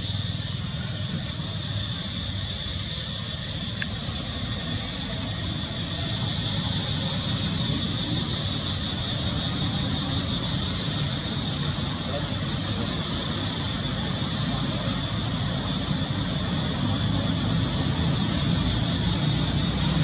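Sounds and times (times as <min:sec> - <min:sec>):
high-pitched hiss: 0:00.0 - 0:20.0.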